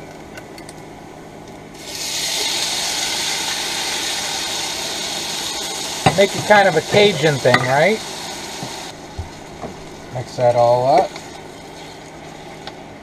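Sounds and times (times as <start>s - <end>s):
beans sizzling in pan: 1.8s - 13.0s.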